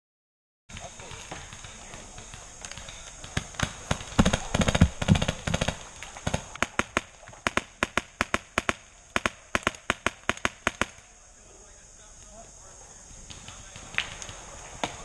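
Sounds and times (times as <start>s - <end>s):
paintball markers firing: 0.7s - 11.0s, 13.2s - 15.0s.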